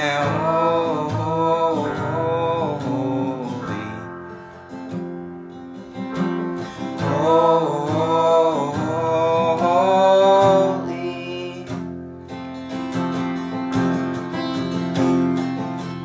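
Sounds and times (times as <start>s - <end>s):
piano: 0.0s - 16.0s
strummed acoustic guitar: 0.0s - 16.0s.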